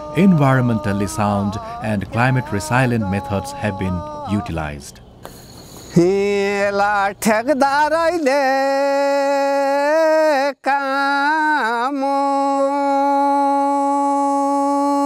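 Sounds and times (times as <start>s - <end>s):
person singing unaccompanied: 0.0s - 5.2s, 5.9s - 15.0s.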